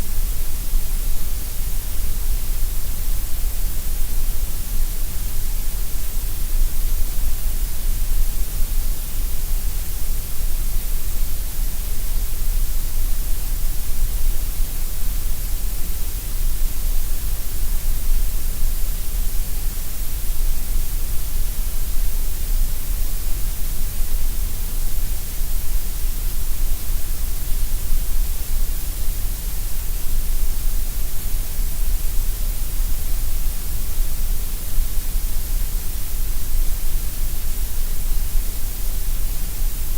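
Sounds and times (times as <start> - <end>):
synthetic gray noise hiss: 0.0 - 39.9.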